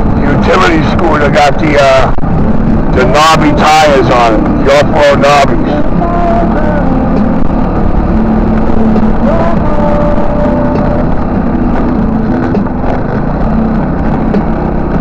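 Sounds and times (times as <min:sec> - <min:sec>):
scooter engine running: 0:02.1 - 0:15.0.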